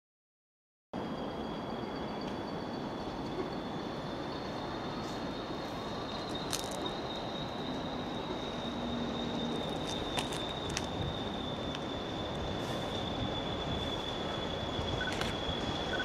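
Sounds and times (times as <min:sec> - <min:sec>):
high-pitched train whine: 0:01.0 - 0:16.0
train rumble: 0:01.0 - 0:16.0.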